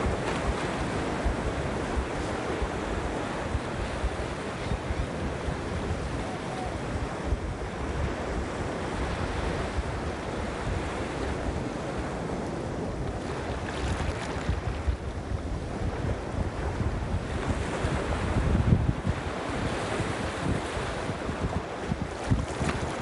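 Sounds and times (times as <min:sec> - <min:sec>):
surf breaking on shore: 0:00.0 - 0:23.0
wind on microphone: 0:00.0 - 0:23.0.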